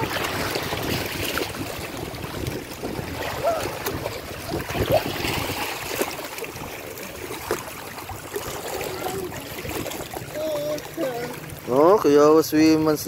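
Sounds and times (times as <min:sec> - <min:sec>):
small waves lapping over rocks: 0:00.0 - 0:13.0.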